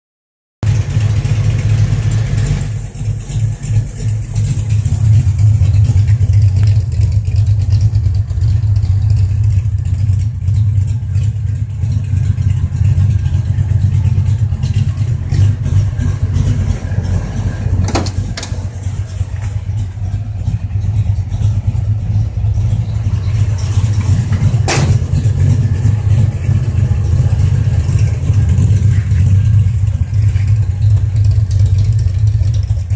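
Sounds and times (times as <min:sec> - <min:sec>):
car engine idling: 0:00.6 - 0:32.9.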